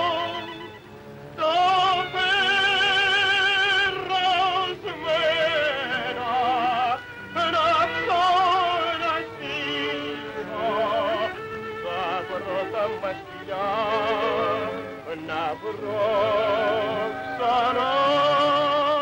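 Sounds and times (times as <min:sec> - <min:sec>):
male tenor singing with vibrato: 0:00.0 - 0:19.0
orchestral tango accompaniment: 0:00.0 - 0:19.0.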